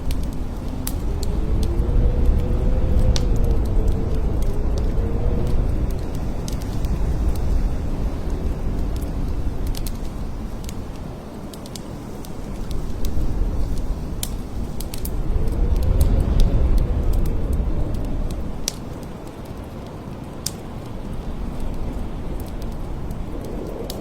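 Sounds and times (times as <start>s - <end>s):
blizzard wind gusting: 0.0s - 24.0s
howling wind whistle: 0.0s - 24.0s.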